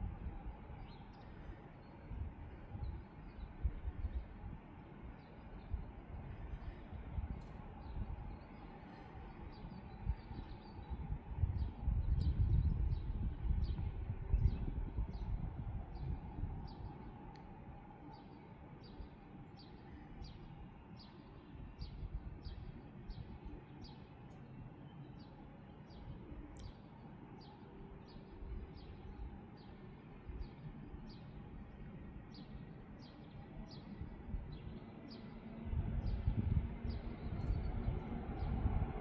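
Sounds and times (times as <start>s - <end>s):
approaching train: 0.0s - 39.0s
low outdoor rumble: 0.0s - 39.0s.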